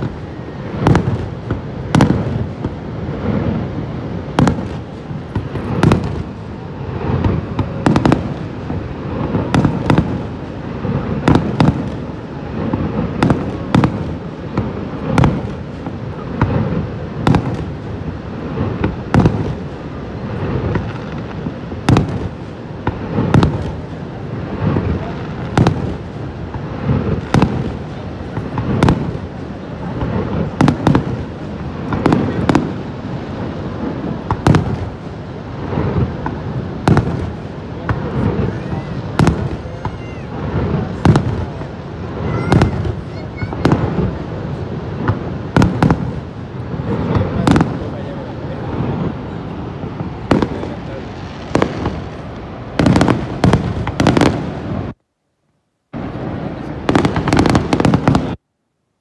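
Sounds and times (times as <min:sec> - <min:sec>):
fireworks bangs: 0:00.0 - 0:55.0, 0:56.0 - 0:58.4.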